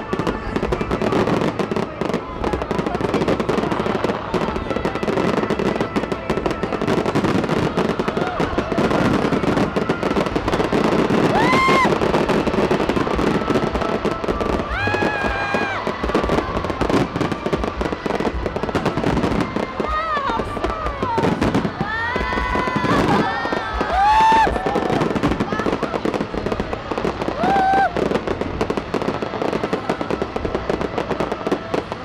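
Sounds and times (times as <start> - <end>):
crowd crying out: 0.0 - 32.0
crowd noise: 0.0 - 32.0
fireworks crackling and popping: 0.0 - 32.0.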